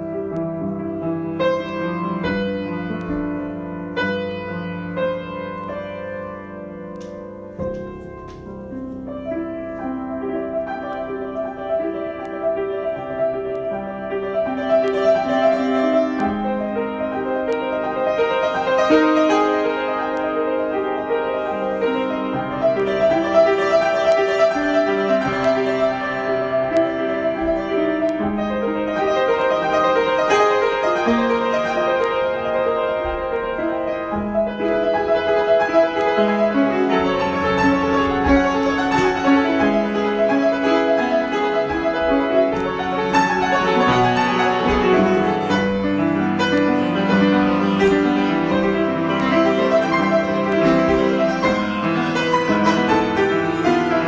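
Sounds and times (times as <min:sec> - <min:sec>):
solo piano improvisation: 0:00.0 - 0:54.0.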